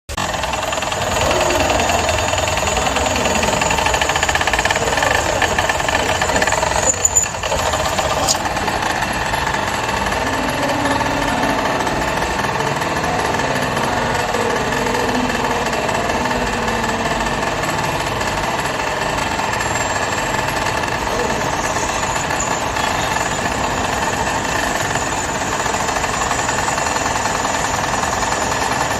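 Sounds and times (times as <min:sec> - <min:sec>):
electric drill drilling into steel: 0:00.2 - 0:28.9.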